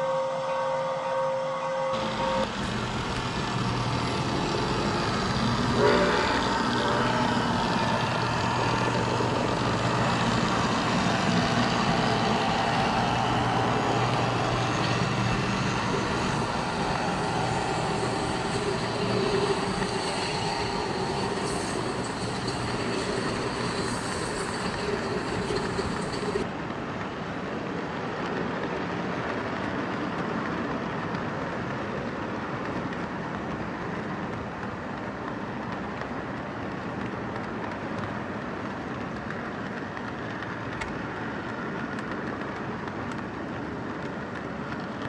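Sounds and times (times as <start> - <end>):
freight train rumble and clatter: 2.0 - 45.0.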